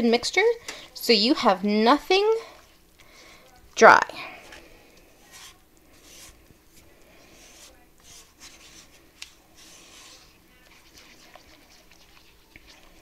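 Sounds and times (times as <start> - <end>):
utensil stirring in saucepan: 2.4 - 13.0.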